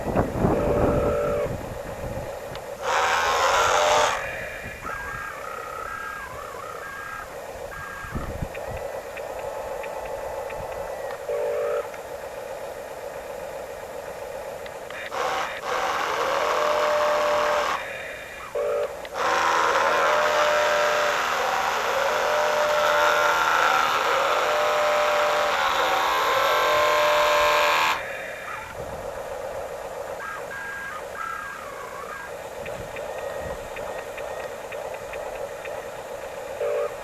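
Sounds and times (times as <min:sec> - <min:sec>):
toy electric motors whining: 0:00.0 - 0:37.0.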